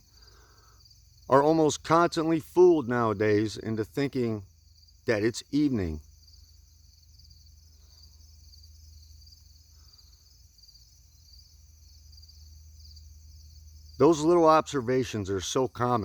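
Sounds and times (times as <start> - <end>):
crickets and grasshoppers trilling: 0.0 - 16.0.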